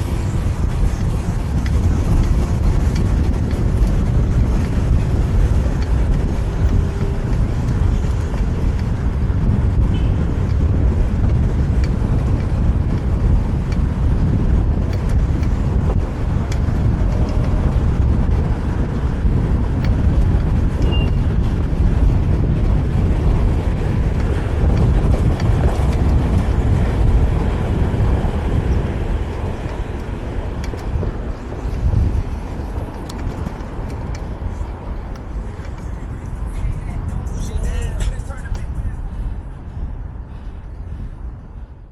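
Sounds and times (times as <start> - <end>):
road and traffic noise: 0.0 - 41.9
wind buffeting microphone: 0.0 - 41.9.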